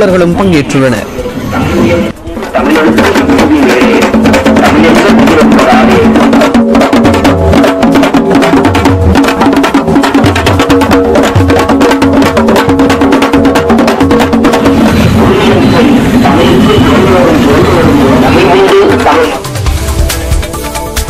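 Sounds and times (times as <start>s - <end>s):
frame drums beaten with sticks: 2.3s - 21.0s.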